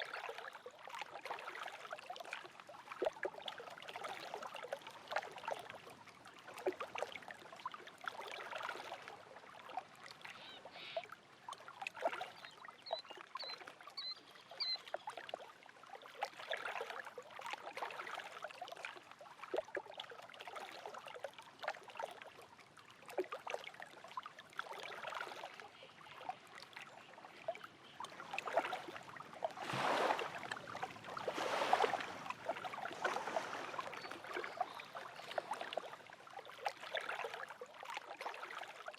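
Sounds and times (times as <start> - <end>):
lake waves lapping at shore: 0.0 - 38.9.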